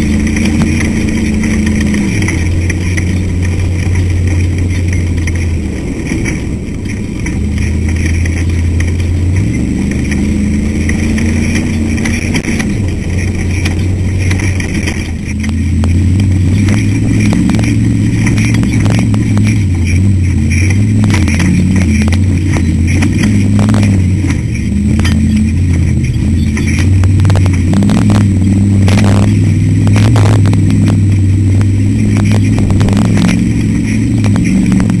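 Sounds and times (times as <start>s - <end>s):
knocks and rattles: 0.0s - 35.0s
race car engine running hard: 0.0s - 35.0s.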